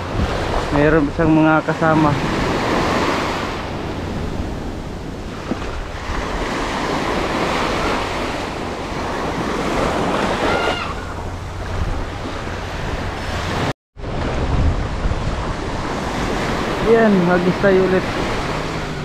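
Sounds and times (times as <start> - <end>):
small waves breaking on sand: 0.0 - 11.2, 11.8 - 19.0
wind rumbling on microphone: 0.0 - 19.0.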